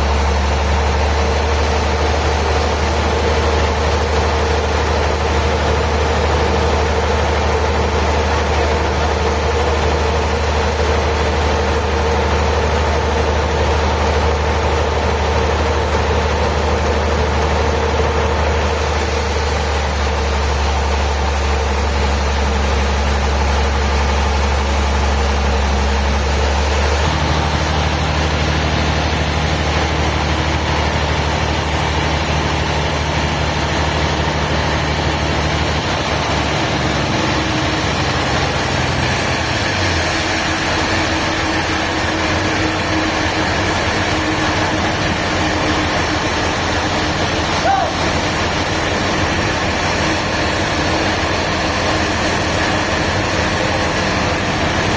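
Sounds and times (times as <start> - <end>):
heavy machine motor humming: 0.0 - 54.9.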